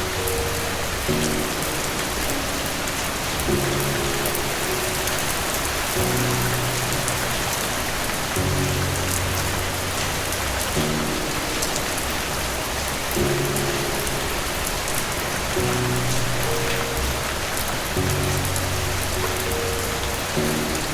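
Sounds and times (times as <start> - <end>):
calm background music chords: 0.0 - 20.9
steady rain: 0.0 - 20.9.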